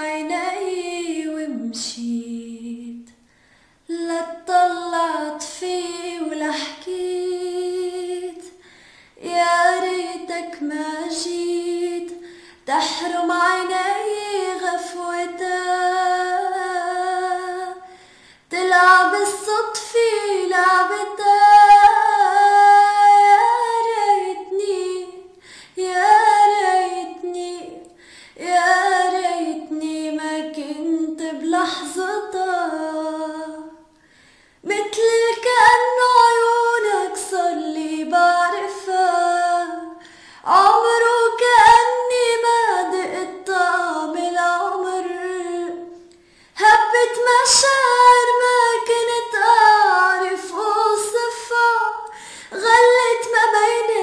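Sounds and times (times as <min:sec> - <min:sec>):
woman singing unaccompanied: 0:00.0 - 0:03.1, 0:03.9 - 0:08.6, 0:09.2 - 0:17.9, 0:18.5 - 0:33.9, 0:34.7 - 0:54.0.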